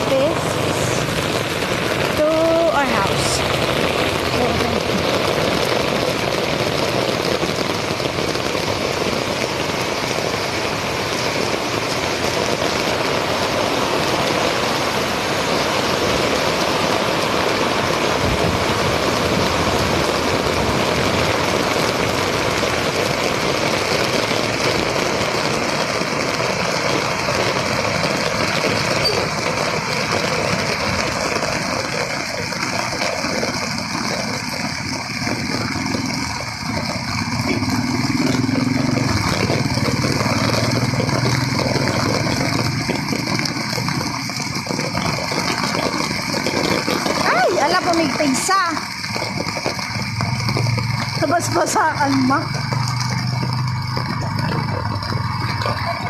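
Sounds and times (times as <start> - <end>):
heavy rain on an umbrella: 0.0 - 56.0.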